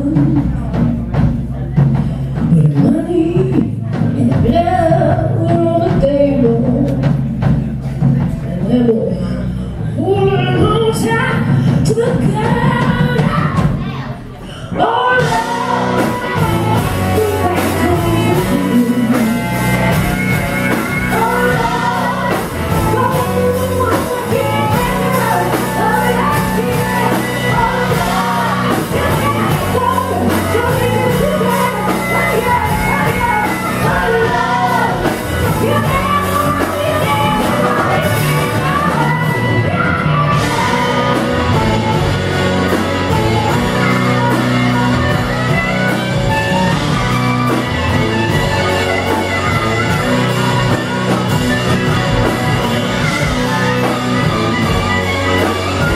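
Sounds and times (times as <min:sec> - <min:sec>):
woman singing lead: 0:00.0 - 0:01.2, 0:02.3 - 0:07.6, 0:08.5 - 0:55.9
drums: 0:00.0 - 0:55.9
electric bass: 0:00.0 - 0:55.9.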